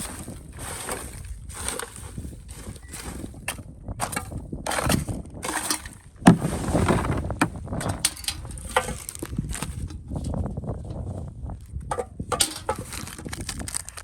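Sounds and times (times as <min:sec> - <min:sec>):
small tools clicking and scraping: 0:00.0 - 0:10.4, 0:11.9 - 0:14.0.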